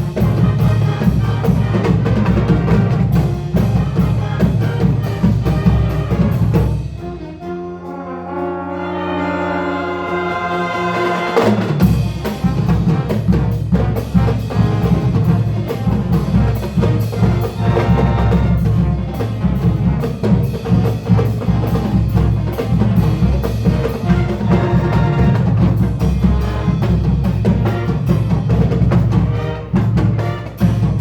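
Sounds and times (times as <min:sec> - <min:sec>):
fast dense drumming: 0:00.0 - 0:07.2, 0:11.0 - 0:31.0
brass chord: 0:00.0 - 0:31.0.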